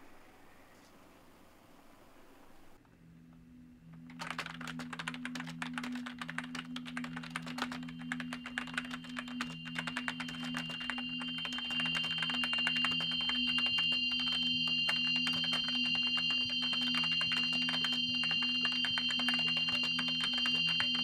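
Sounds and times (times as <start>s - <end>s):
rapid typing on keyboard: 4.0s - 21.0s.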